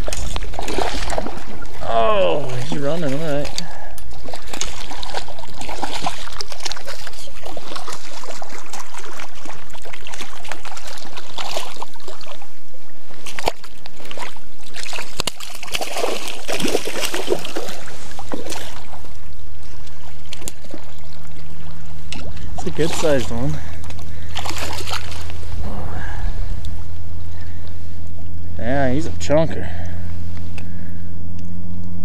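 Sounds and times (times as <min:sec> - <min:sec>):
fish splashing in shallow water: 0:00.0 - 0:27.9.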